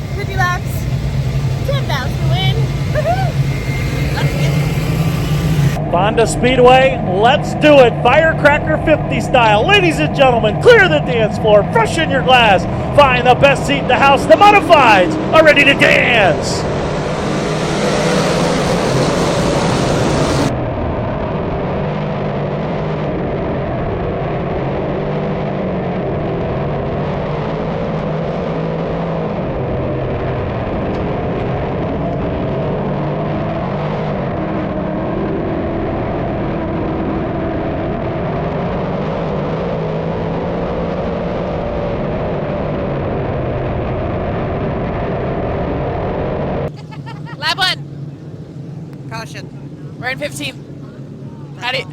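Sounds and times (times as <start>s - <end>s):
race car engines droning: 0.0s - 51.9s.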